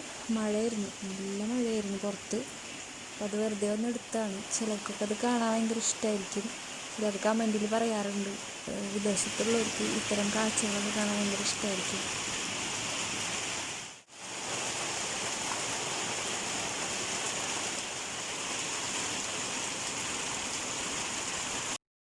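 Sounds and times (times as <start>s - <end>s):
heavy rain falling: 0.0s - 21.8s.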